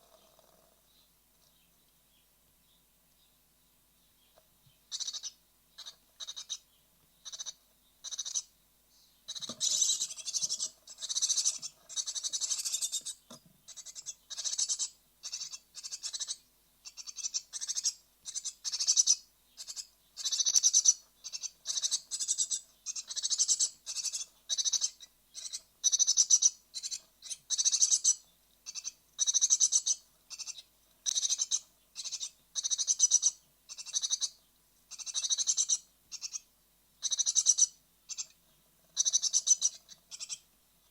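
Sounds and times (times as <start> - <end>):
nestlings raspy hissing calls: 4.9 - 6.6, 7.2 - 8.5, 9.3 - 38.4, 39.0 - 40.4.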